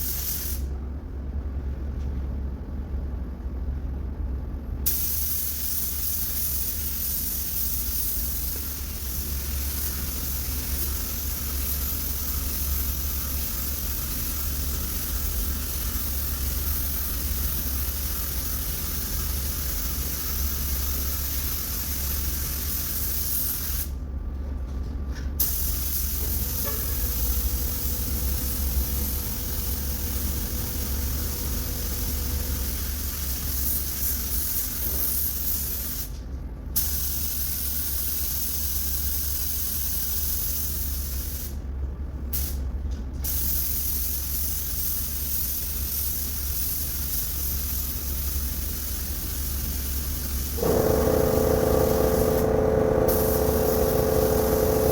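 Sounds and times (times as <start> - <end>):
paint spray gun hissing: 0.0 - 0.7, 4.9 - 23.9, 25.4 - 36.1, 36.8 - 41.5, 43.2 - 54.9
steady low hum: 0.0 - 54.9.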